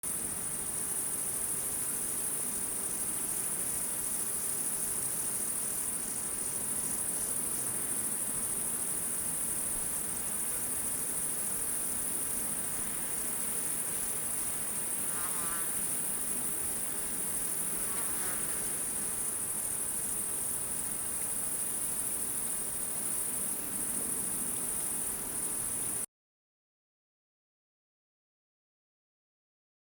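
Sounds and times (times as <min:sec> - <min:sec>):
crickets and insects trilling: 0:00.1 - 0:26.1.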